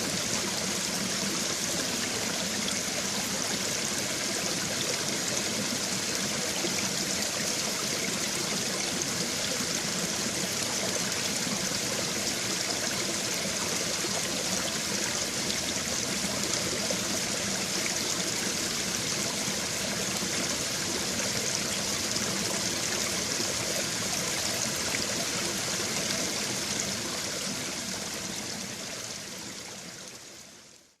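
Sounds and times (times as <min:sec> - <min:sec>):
stream water trickling: 0:00.0 - 0:31.0.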